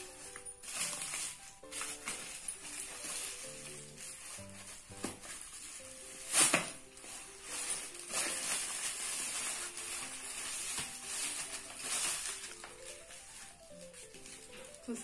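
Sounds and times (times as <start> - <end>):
plastic packaging crinkling: 0.0 - 15.0
quiet background music: 0.0 - 15.0.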